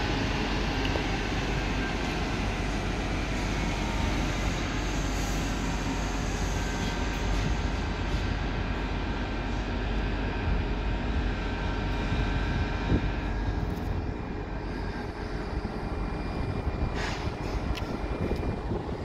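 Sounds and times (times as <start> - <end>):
train electric drone: 0.0 - 19.0.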